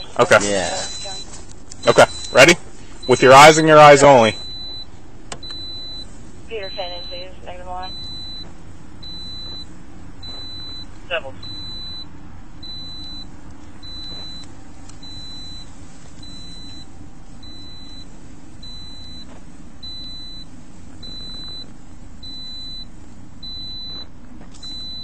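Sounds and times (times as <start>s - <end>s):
car warning chime beeping: 0.0s - 25.0s.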